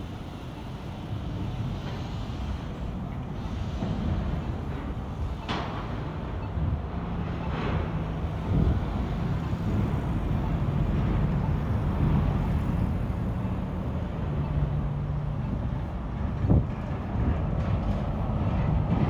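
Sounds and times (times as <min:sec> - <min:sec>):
traffic rumble: 0:00.0 - 0:19.0
truck engine hum: 0:00.0 - 0:19.0.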